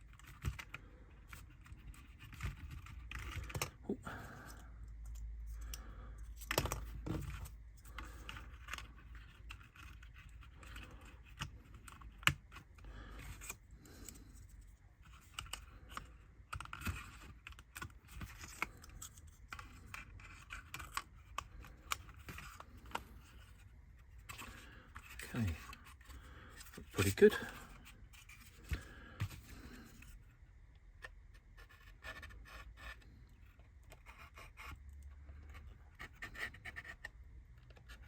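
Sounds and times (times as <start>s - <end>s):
small clicks taps and scrapes: 0.0s - 38.0s.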